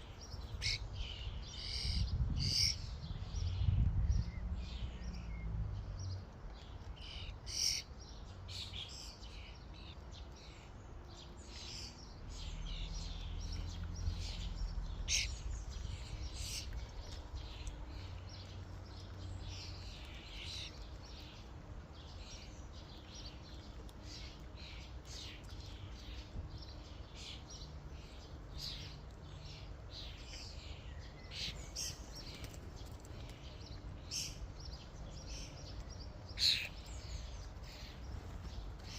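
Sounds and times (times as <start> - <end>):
starlings chirping: 7.0 - 38.9.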